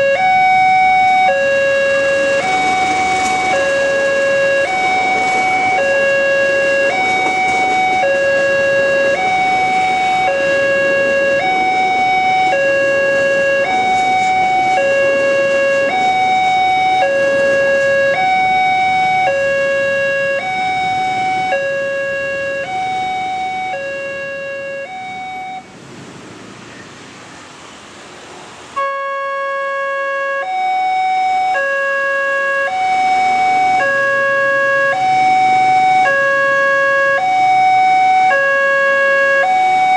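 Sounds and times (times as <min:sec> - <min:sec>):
two-tone crossing alarm: 0:00.0 - 0:25.7, 0:28.8 - 0:39.9
motorcycle and traffic noise: 0:00.0 - 0:39.9.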